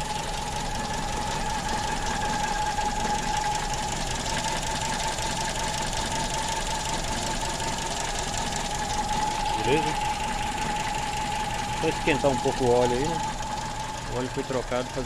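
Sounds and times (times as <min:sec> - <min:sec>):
car engine idling: 0:00.0 - 0:15.0
steady high whine: 0:00.0 - 0:15.0.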